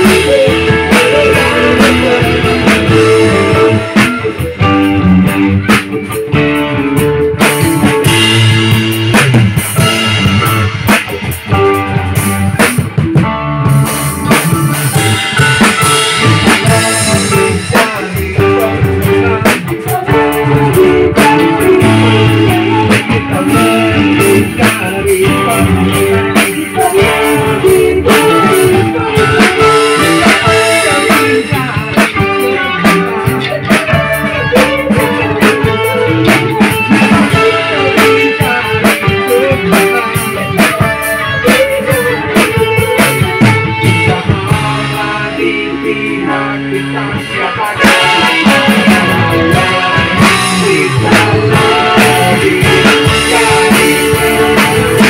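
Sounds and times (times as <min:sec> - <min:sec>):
live band playing worship song: 0:00.0 - 0:55.0.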